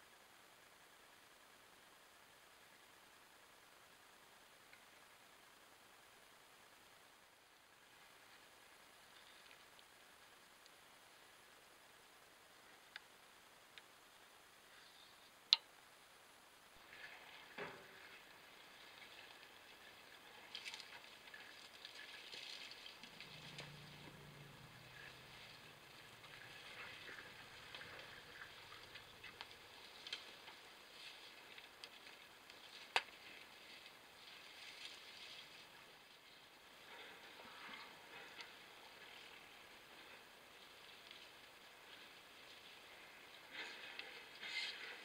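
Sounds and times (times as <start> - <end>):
faint low hum: 0.0 - 45.0
outdoor rustling and crackling: 0.0 - 45.0.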